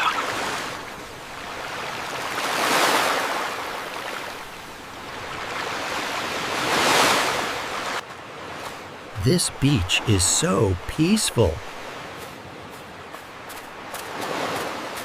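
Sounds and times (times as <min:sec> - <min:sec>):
ocean waves washing up: 0:00.0 - 0:15.0.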